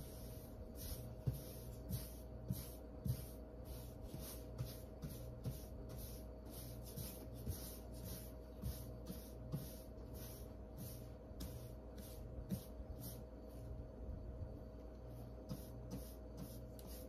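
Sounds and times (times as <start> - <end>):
paintbrush swishing on wall: 0.0 - 14.0, 14.9 - 17.0.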